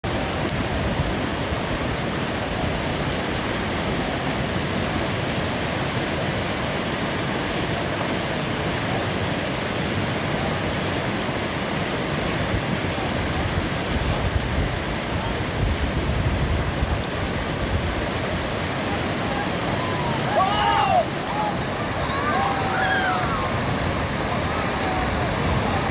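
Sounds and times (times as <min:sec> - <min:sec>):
river rapids rushing: 0:00.0 - 0:25.9.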